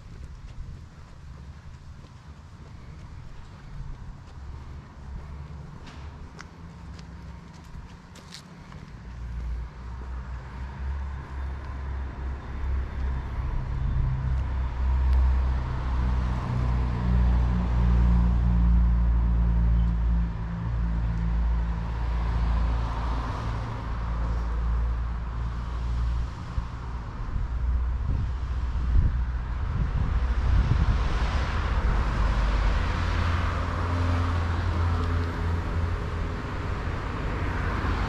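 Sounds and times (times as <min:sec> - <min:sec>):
vehicle engine rumbling: 0:00.0 - 0:38.0.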